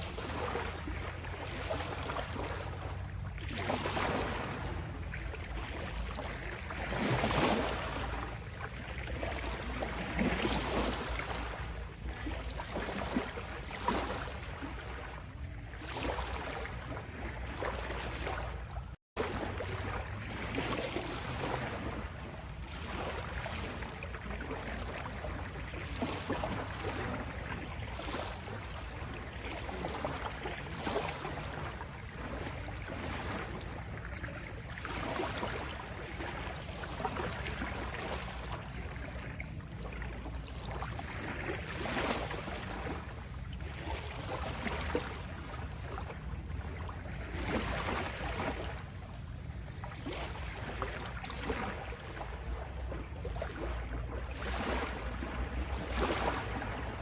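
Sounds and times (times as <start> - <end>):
small sea waves lapping on shore: 0.0 - 57.0.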